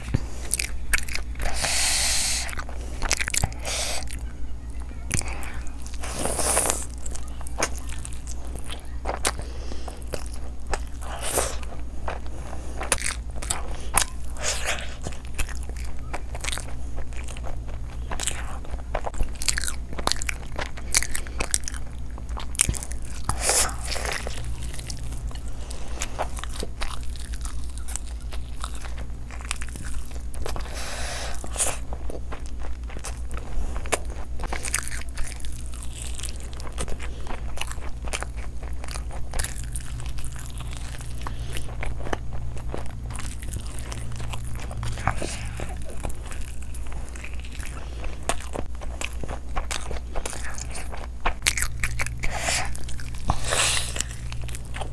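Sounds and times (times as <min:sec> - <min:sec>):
low steady hum: 0:00.0 - 0:54.9
wet chewing and mouth clicks: 0:00.0 - 0:54.9.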